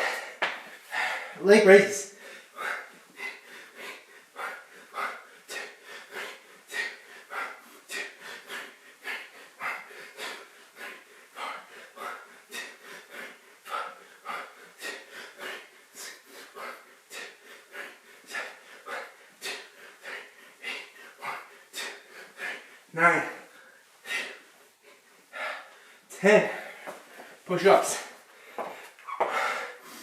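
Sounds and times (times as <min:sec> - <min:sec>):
man breathing hard: 0:00.0 - 0:30.0.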